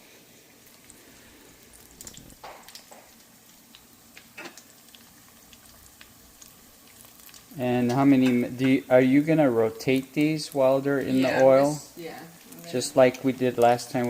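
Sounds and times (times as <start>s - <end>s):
spring rolls sizzling in hot oil: 0.0s - 14.0s
oil crackles: 0.5s - 14.0s.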